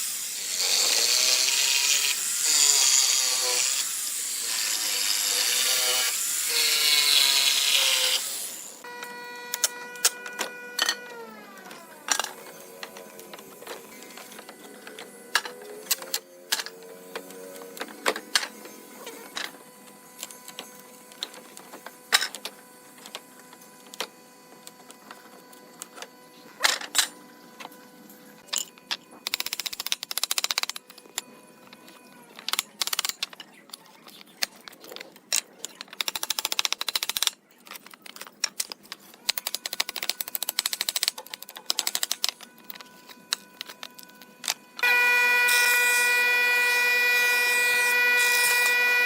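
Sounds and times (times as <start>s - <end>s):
buzzing rattle of small machine: 0.3s - 49.0s.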